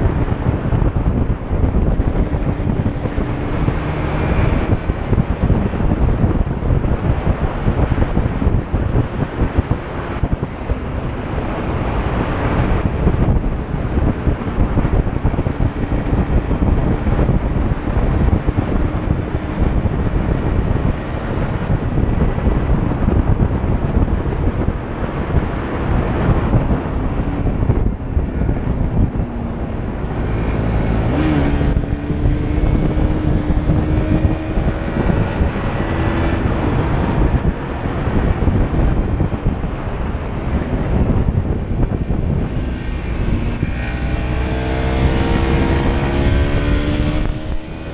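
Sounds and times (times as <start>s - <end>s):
motorcycle engine drone: 0.0s - 47.9s
wind rumble on microphone: 0.0s - 47.9s.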